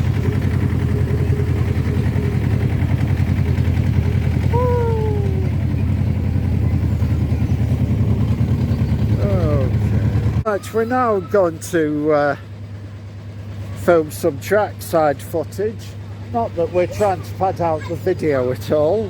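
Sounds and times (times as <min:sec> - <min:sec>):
small locomotive engine throbbing: 0:00.0 - 0:19.0.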